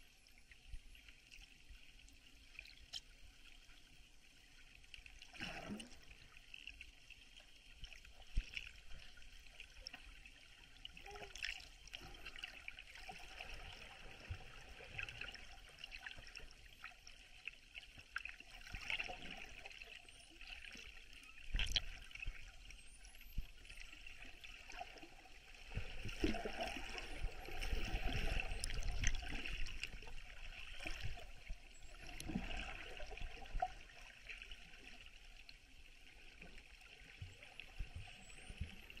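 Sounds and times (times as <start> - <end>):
rumble of water movement: 0.0 - 39.0
underwater rushing and bubbling: 0.0 - 39.0.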